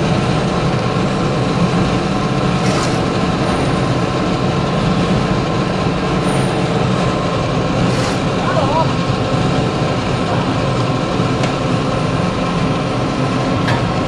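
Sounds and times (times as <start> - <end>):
pellet mill droning: 0.0 - 14.0.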